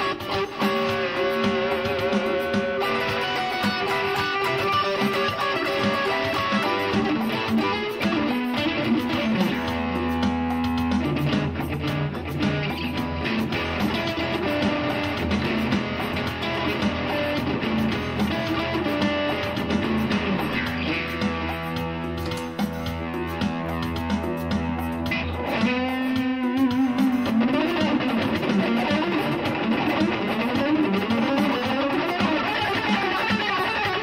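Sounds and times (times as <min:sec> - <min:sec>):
electric guitar: 0:00.0 - 0:34.0.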